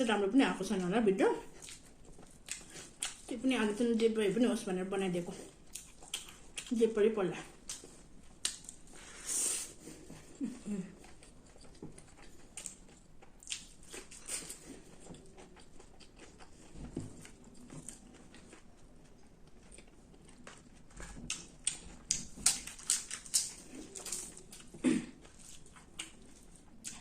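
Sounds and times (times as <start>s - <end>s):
person chewing crunchy food: 1.5s - 3.3s, 5.5s - 6.8s, 7.5s - 27.0s.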